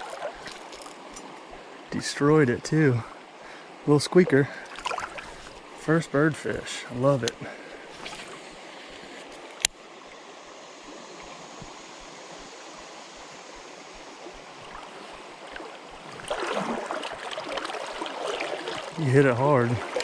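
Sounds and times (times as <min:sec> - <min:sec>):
choppy water noise: 0:00.0 - 0:20.0
creek water running: 0:00.0 - 0:20.0.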